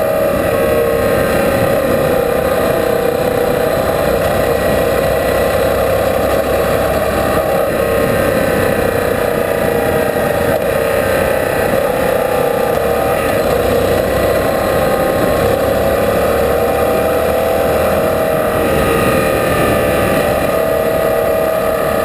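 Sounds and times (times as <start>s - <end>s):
loud wind rush: 0.0s - 22.0s
motorcycle engine cruising: 0.0s - 22.0s.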